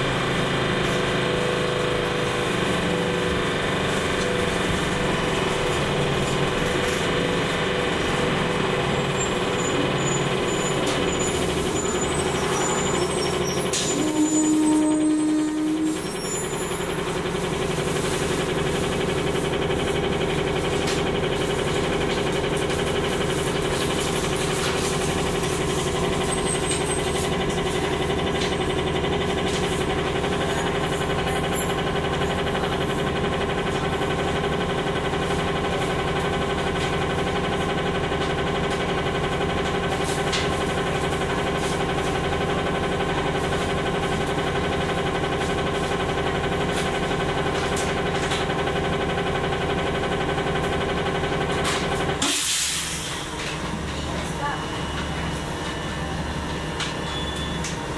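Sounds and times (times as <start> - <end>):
bus engine idling: 0.0 - 57.9.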